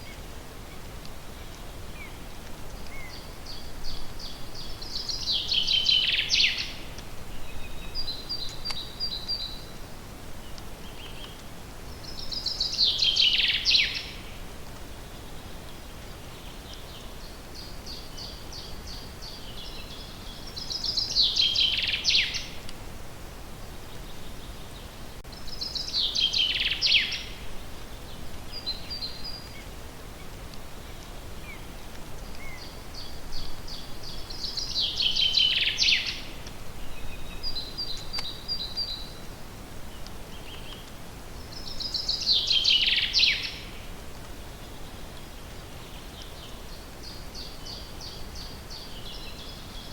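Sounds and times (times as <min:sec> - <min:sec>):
songbird singing: 0:00.0 - 0:22.8, 0:23.4 - 0:49.9
faint hiss: 0:00.0 - 0:49.9.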